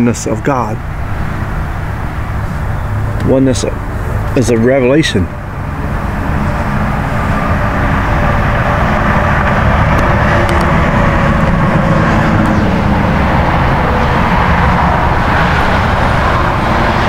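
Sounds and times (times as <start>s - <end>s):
tyre and traffic noise: 0.0s - 17.0s
vehicle engine running: 0.0s - 17.0s.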